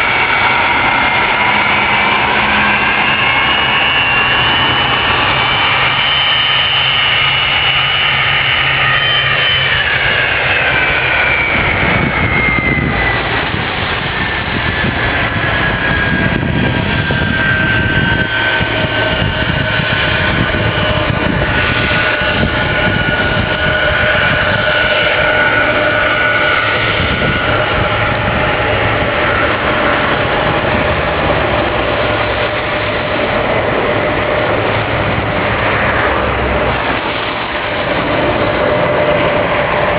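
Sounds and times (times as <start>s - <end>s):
jet engines running at high power: 0.0s - 39.9s.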